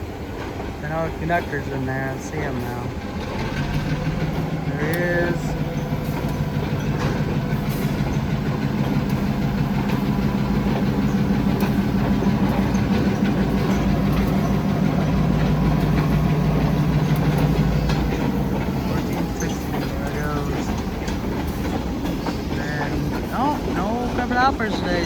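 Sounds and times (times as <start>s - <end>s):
diesel locomotive engine drone: 0.0s - 25.0s.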